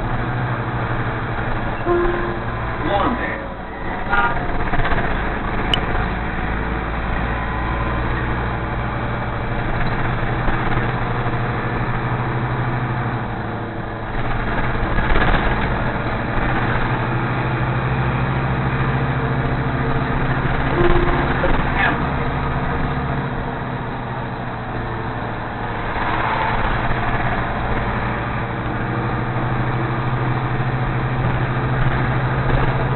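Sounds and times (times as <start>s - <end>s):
bus engine low hum: 0.0s - 32.9s.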